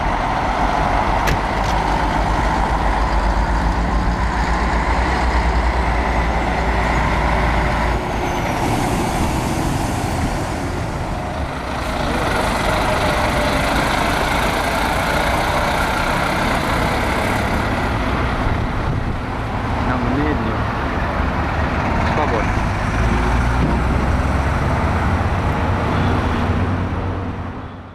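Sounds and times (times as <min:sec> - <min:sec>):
diesel truck engine throbbing: 0:00.0 - 0:27.6
heavy vehicles rushing past: 0:00.0 - 0:27.9.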